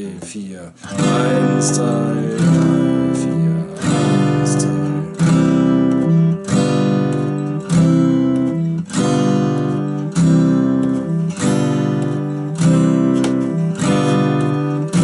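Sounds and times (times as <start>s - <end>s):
acoustic guitar strummed slowly: 0.8s - 15.0s.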